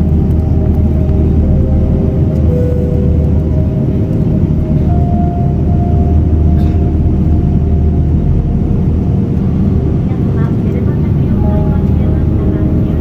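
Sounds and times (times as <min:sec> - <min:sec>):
airliner engine rumble: 0:00.0 - 0:13.0
faint engine whine: 0:00.0 - 0:13.0.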